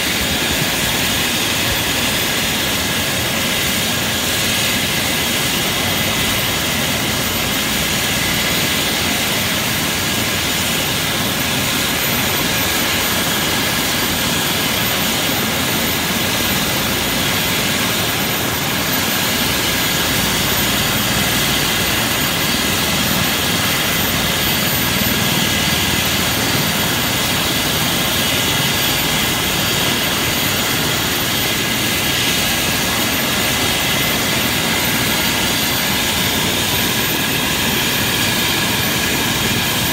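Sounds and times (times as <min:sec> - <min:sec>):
helicopter rotor rush: 0:00.0 - 0:39.9
helicopter turbine whine: 0:00.0 - 0:39.9.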